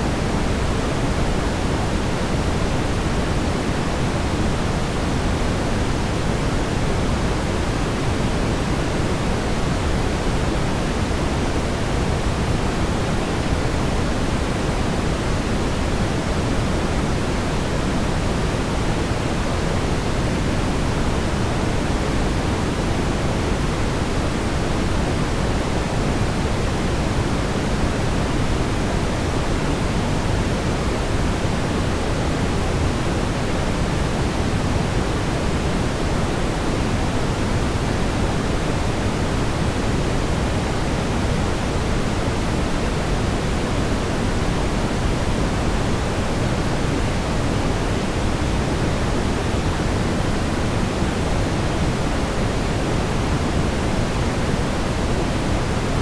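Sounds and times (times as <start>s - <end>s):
brown noise rumbling hiss: 0.0s - 56.0s.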